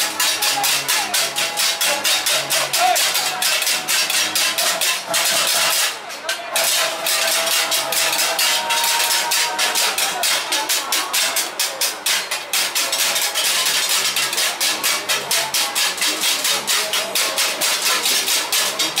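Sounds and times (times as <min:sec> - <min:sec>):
hand-held gongs struck rhythmically: 0:00.0 - 0:19.0.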